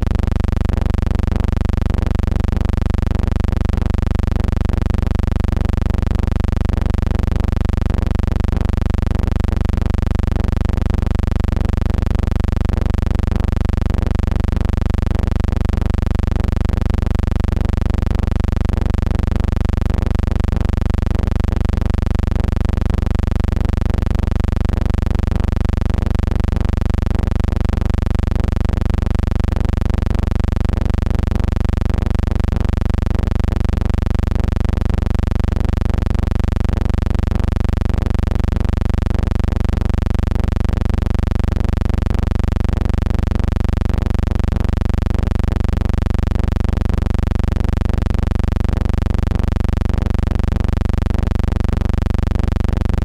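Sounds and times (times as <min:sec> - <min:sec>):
low pulsing hum: 0:00.0 - 0:53.0.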